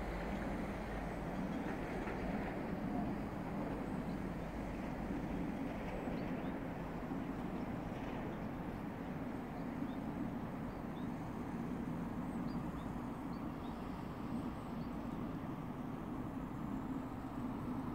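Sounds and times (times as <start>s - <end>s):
distant diesel locomotive drone: 0.0s - 17.9s.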